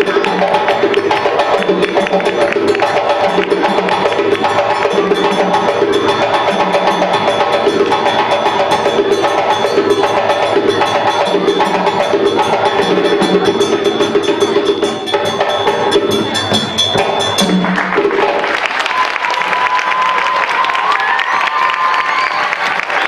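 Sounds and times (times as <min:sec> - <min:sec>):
sharp wood-block strikes: 0:00.0 - 0:18.6
hand drumming fast beat: 0:00.0 - 0:20.0.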